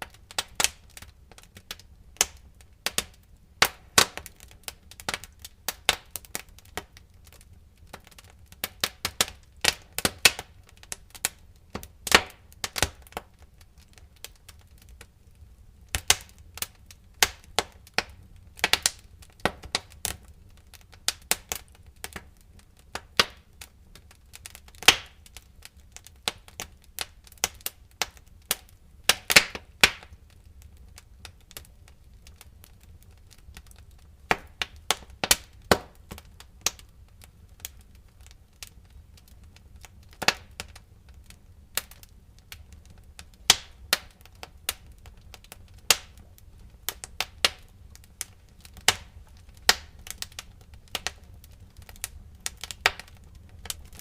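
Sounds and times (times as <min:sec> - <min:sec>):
low rumble of burning logs: 0:00.0 - 0:54.0
wood fire crackling and popping: 0:00.0 - 0:54.0.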